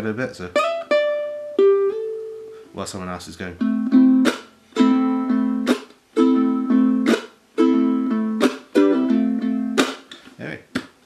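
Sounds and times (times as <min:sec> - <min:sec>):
ukulele strumming chords: 0:00.0 - 0:02.8, 0:03.4 - 0:10.2.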